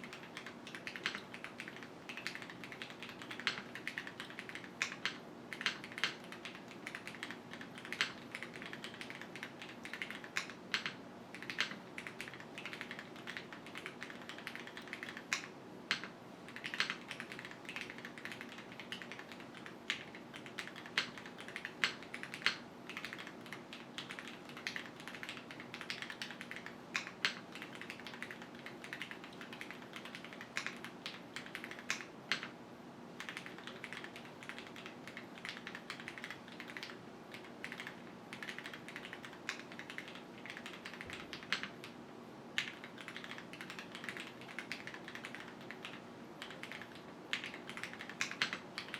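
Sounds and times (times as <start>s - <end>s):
mechanical keyboard typing: 0.0s - 32.5s, 33.2s - 42.0s, 42.6s - 48.9s.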